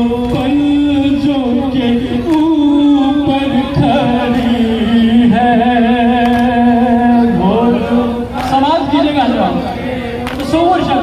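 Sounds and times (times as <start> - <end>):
man singing a lament: 0.0 - 11.0.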